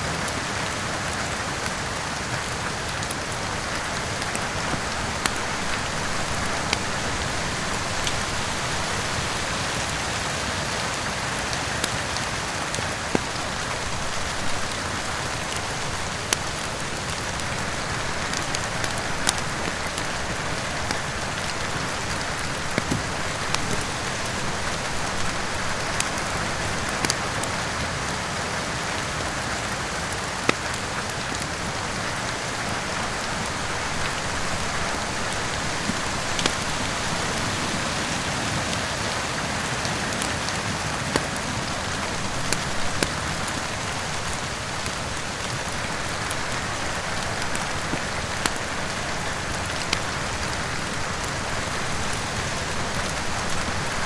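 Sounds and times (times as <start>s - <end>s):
steady rain: 0.0s - 54.0s
wood fire crackling and popping: 0.0s - 54.0s.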